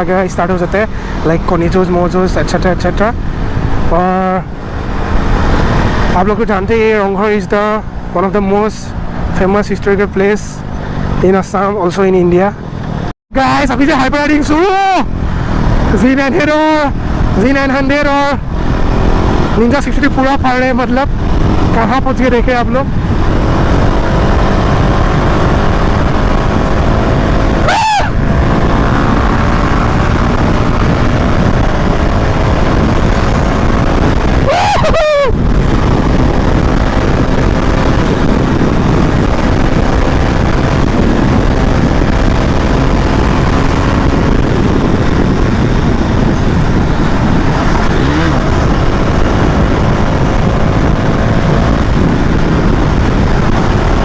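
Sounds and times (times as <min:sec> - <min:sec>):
motorcycle engines: 0:00.0 - 0:54.0
wind rush on microphone: 0:00.0 - 0:54.0.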